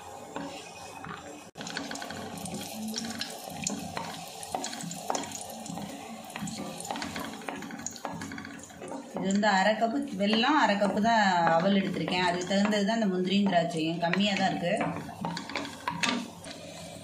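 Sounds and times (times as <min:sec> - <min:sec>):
raisins sizzling in hot fat: 0:00.0 - 0:17.0
wooden spatula stirring: 0:00.0 - 0:17.0.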